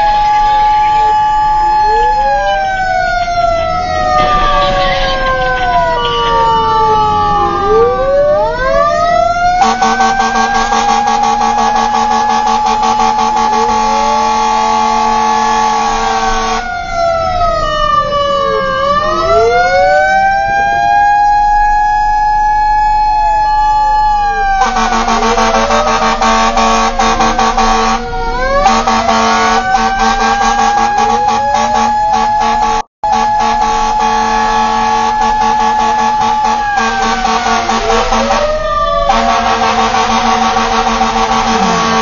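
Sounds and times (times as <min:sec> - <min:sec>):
fire truck siren wailing: 0:00.0 - 0:42.0
rapid pulsing siren tone: 0:00.0 - 0:42.0.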